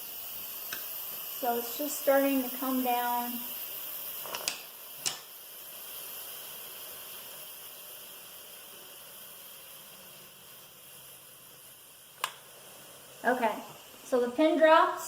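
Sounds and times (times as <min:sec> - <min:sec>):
steam hissing from pressure valve: 0:00.0 - 0:15.0.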